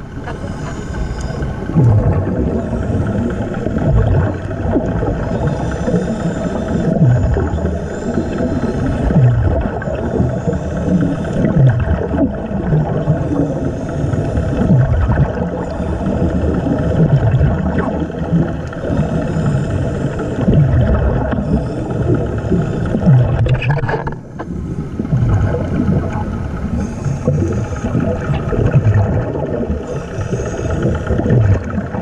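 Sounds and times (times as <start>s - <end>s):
bubbling and gurgling breath: 0.0s - 32.0s
compressor hum: 0.0s - 32.0s
muffled underwater rumble: 0.0s - 32.0s.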